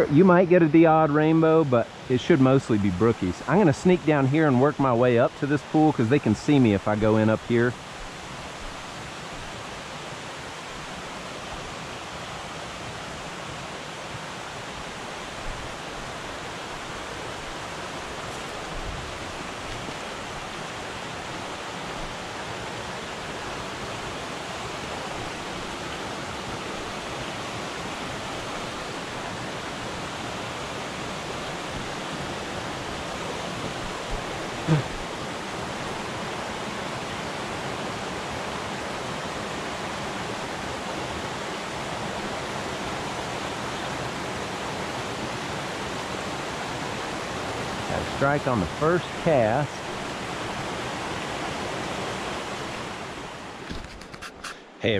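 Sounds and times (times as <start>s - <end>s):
creek rushing over stones: 0.0s - 54.8s.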